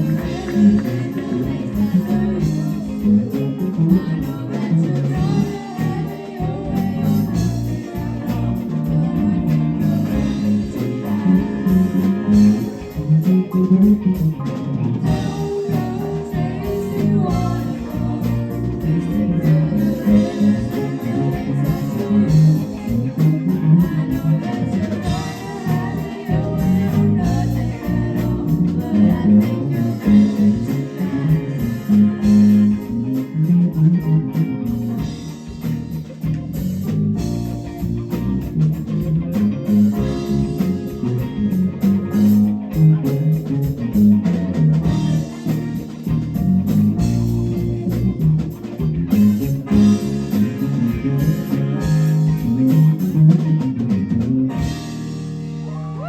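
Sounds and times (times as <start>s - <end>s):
bass guitar: 0.0s - 56.0s
guitar: 0.0s - 56.0s.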